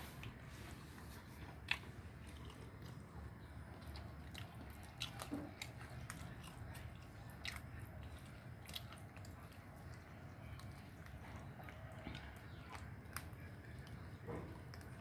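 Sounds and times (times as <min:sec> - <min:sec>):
cat crunching food: 0:00.0 - 0:15.0
steady low hum: 0:00.0 - 0:15.0.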